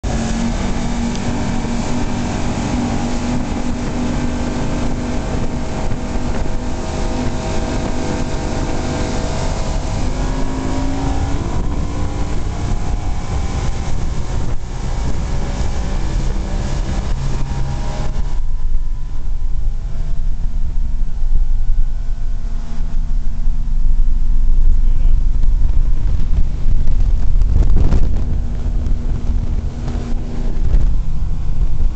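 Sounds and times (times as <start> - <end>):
outboard motor running at high speed: 0.0 - 31.9
wind on microphone: 0.0 - 31.9.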